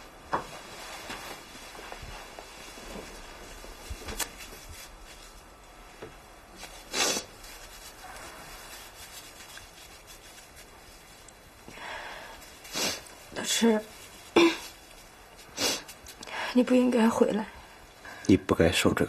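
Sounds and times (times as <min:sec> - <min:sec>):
paper tissue rustling: 0:00.0 - 0:17.1.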